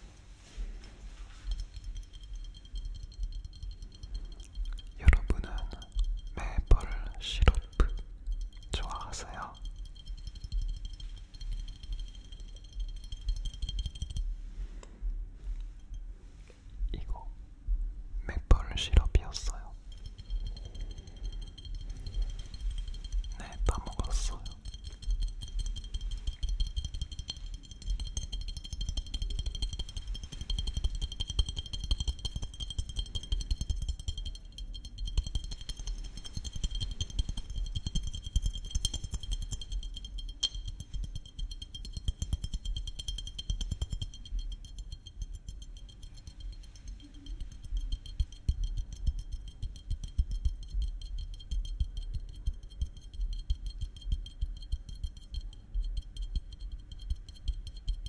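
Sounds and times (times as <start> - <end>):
fingertips tapping glass bottles: 0.8 - 14.5, 18.4 - 58.0.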